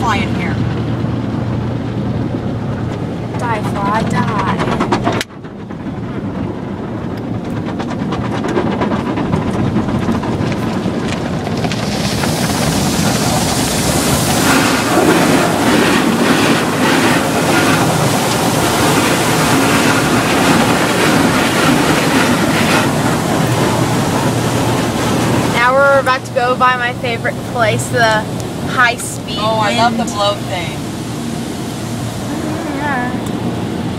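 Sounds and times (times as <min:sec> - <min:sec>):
car wash machinery: 0:00.0 - 0:33.9.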